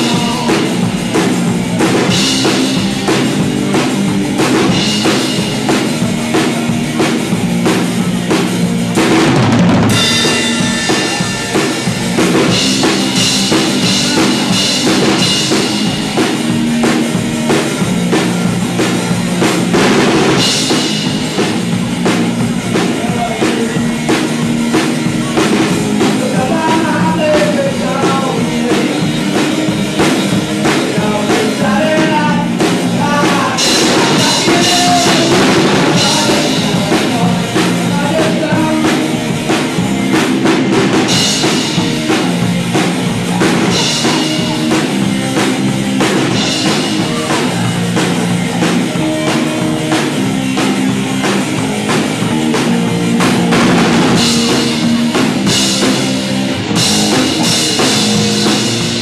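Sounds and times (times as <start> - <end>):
drum kit beat: 0.0 - 59.0
electric guitars: 0.0 - 59.0
live rock band playing: 0.0 - 59.0.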